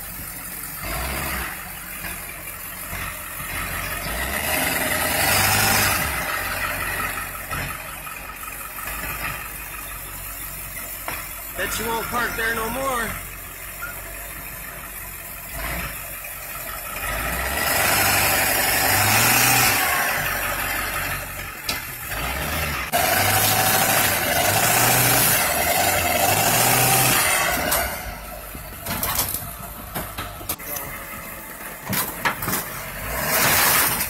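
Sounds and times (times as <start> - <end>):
engine revving under load: 0.7 - 34.0.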